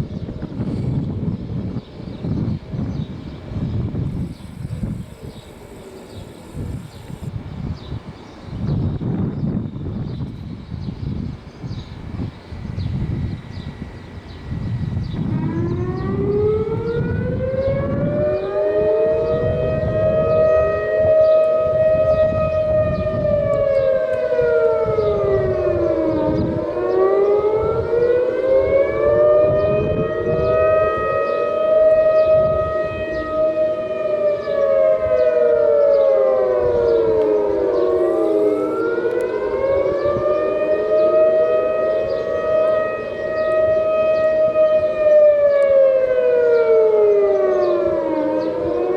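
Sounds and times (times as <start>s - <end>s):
warning sirens wailing: 0.0s - 48.9s.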